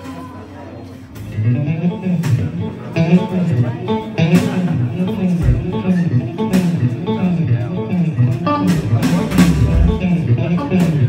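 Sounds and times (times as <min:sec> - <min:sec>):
live blues band: 0:00.9 - 0:11.0
electric guitar: 0:01.0 - 0:11.0.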